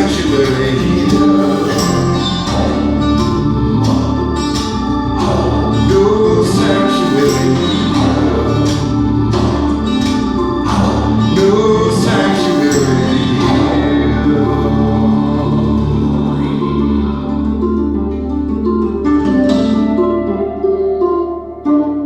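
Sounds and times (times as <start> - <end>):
song over loudspeakers: 0.0 - 18.4.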